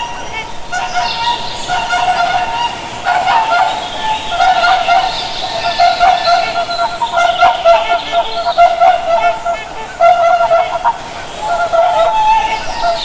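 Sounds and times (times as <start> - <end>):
swans calling: 0.0 - 13.0.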